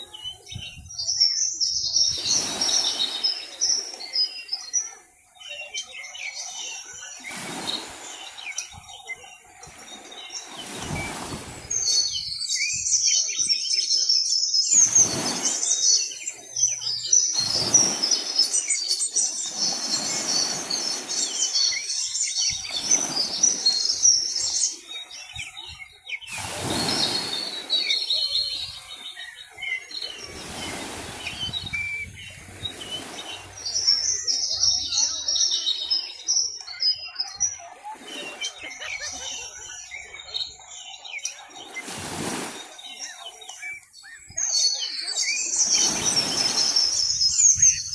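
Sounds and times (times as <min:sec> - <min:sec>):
small birds chirping chorus: 0:00.0 - 0:47.9.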